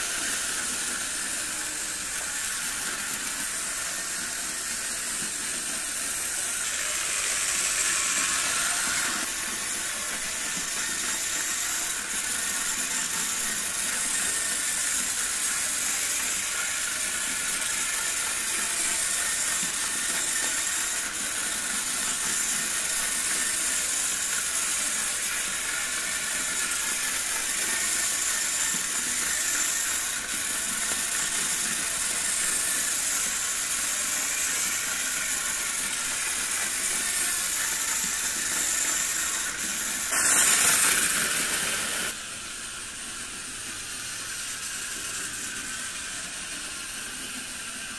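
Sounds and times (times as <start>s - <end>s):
model train motor whirring: 0.0s - 47.9s.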